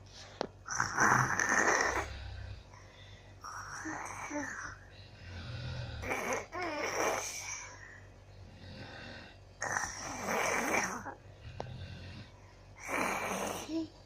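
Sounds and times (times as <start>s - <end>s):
woman snoring: 0.6s - 7.8s, 8.4s - 14.0s.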